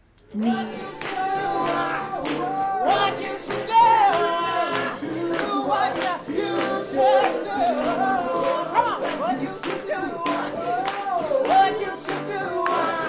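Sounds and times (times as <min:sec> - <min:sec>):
person singing with vibrato: 0:00.2 - 0:13.0.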